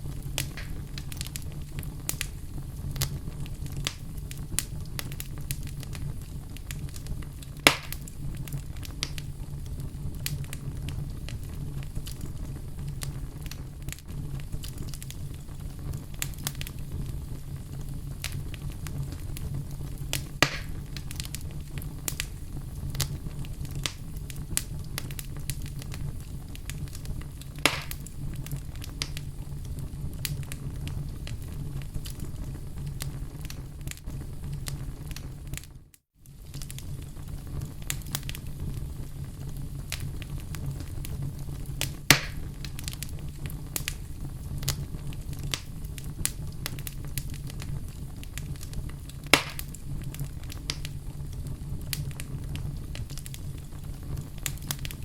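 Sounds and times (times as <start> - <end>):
fire crackling: 0.0 - 55.0
low fire rumble: 0.0 - 55.0
sharp fire pops: 0.0 - 55.0.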